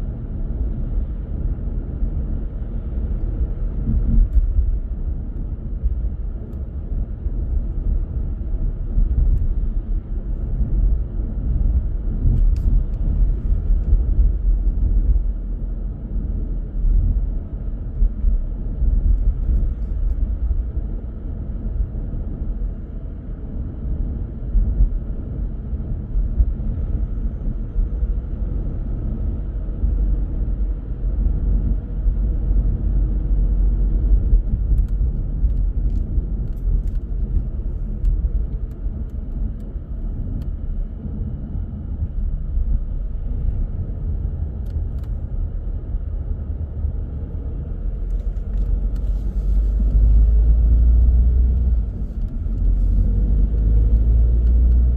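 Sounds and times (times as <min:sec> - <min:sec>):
car road noise and engine: 0:00.0 - 0:54.9.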